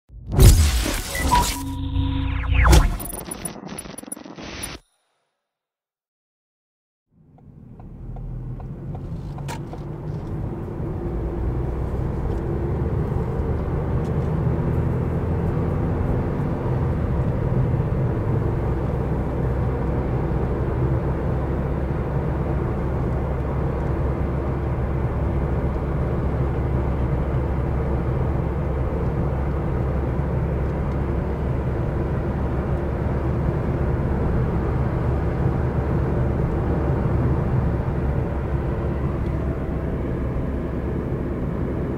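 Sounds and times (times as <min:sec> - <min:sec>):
car engine and road rumble: 0:07.1 - 0:41.9.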